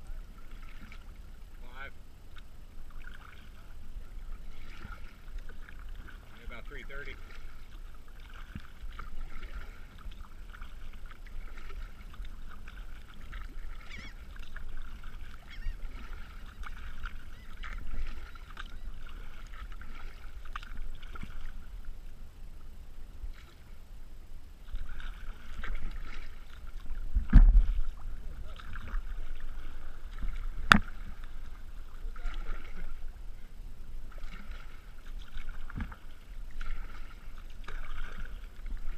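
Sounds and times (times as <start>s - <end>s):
paddle splashes: 0.0s - 38.9s
water splashing along kayak hull: 0.0s - 38.9s.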